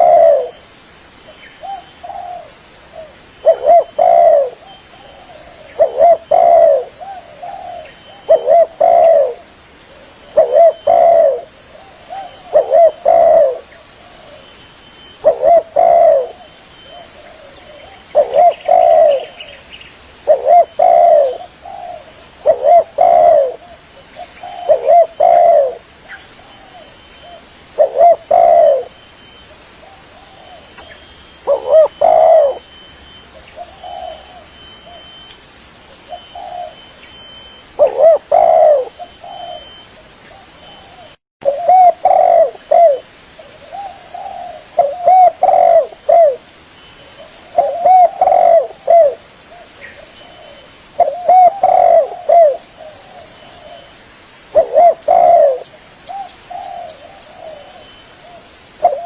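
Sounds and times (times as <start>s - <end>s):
dove cooing: 0.0s - 0.7s, 1.6s - 35.3s, 36.0s - 53.9s, 54.5s - 59.0s.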